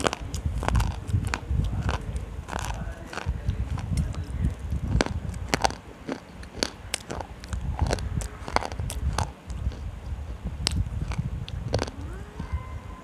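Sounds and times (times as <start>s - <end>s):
slate pencils crunched and chewed: 0.0s - 12.0s
low rumble: 0.0s - 13.0s.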